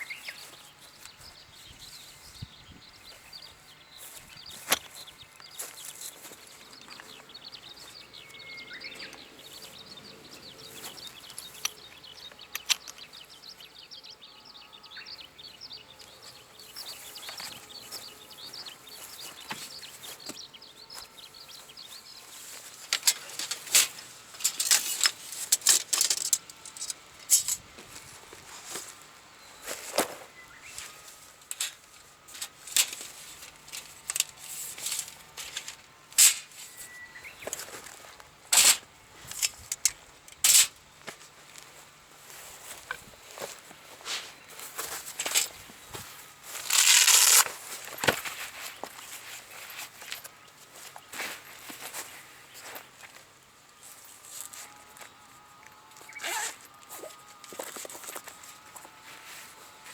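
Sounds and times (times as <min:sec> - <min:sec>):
birds chirping faintly: 0:00.0 - 0:59.9.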